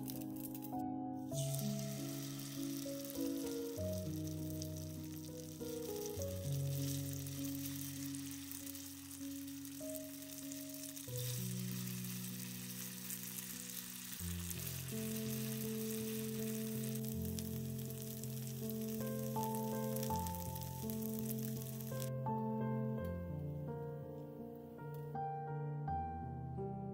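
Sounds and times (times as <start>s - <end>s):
patty sizzling in oil: 0.0s - 22.1s
soft background music: 0.0s - 26.9s.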